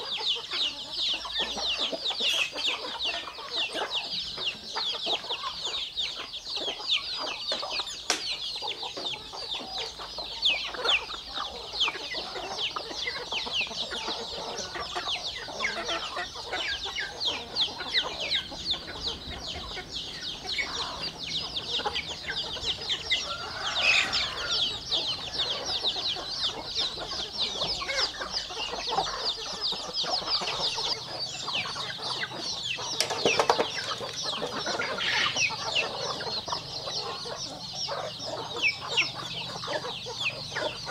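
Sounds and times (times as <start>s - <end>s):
chicks peeping: 0.0s - 40.9s
hens clucking: 0.0s - 40.9s.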